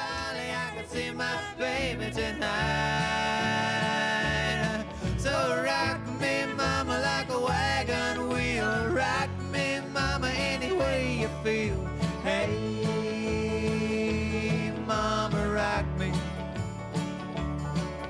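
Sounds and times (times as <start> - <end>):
person singing: 0.0 - 16.4
banjo: 0.0 - 18.0
plucked guitar: 0.0 - 18.0.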